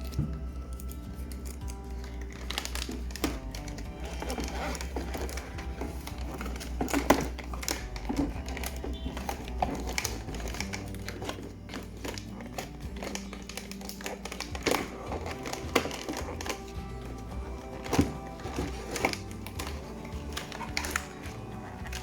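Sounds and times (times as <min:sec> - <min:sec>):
packaging clicks and taps: 0:00.0 - 0:22.0
soft background music: 0:00.0 - 0:22.0.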